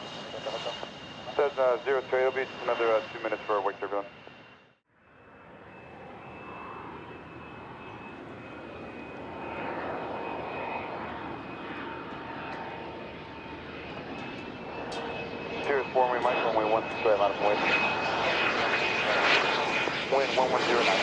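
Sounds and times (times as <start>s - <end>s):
aircraft engines whining: 0.0s - 21.0s.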